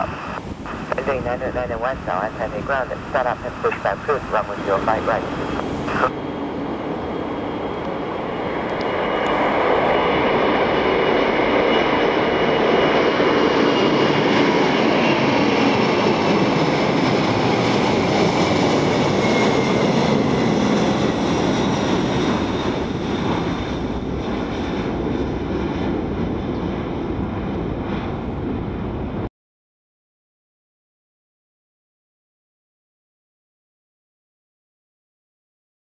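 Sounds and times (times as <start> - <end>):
jet engines roaring at takeoff: 0.0 - 29.3.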